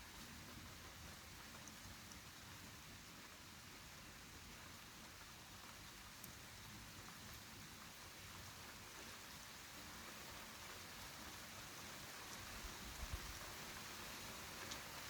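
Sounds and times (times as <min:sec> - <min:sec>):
light rain hiss: 0:00.0 - 0:15.0
soft raindrop ticks: 0:00.0 - 0:15.0.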